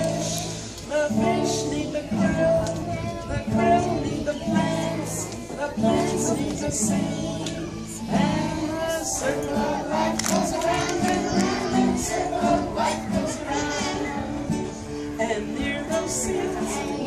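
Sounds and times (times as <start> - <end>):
acoustic guitar strumming: 0.0 - 17.0
children singing together: 0.0 - 17.0.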